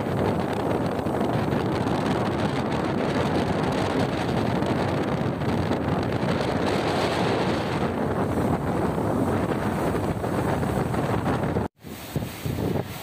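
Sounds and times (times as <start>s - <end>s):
surf breaking on shore: 0.0s - 13.0s
wind blowing across microphone: 0.0s - 13.0s.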